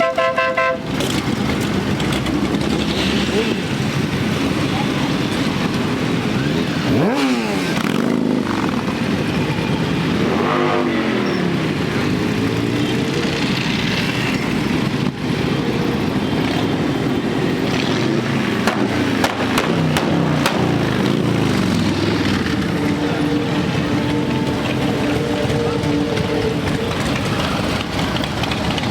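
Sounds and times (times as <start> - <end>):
motorcycle engines revving: 0.1 - 28.9.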